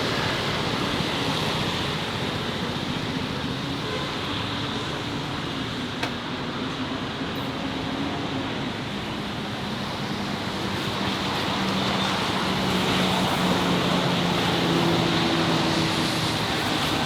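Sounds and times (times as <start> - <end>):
passing vehicles with engine hum: 0.0 - 17.0.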